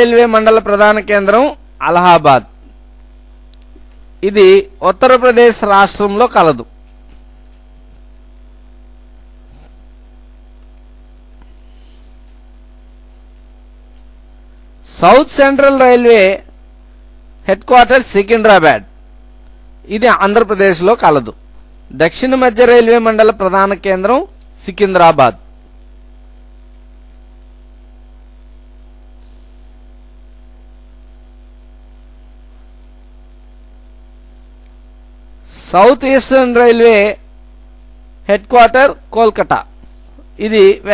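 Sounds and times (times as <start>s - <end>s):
electrical mains hum: 0.0s - 40.9s
rapid high ticking: 0.0s - 40.9s
steady tones: 0.0s - 40.9s.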